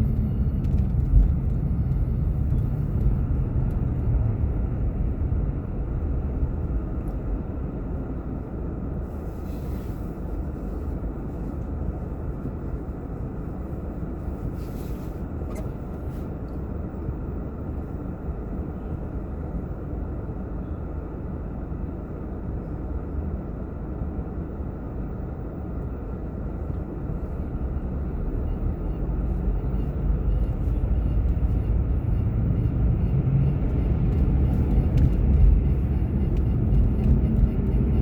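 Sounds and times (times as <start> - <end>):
road and engine noise in car: 0.0 - 38.0.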